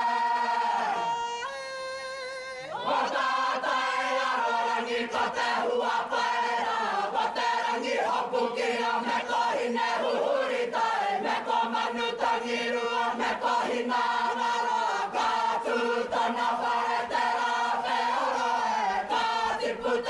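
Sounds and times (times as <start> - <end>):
group chanting in unison: 0.0 - 1.4, 2.6 - 20.0.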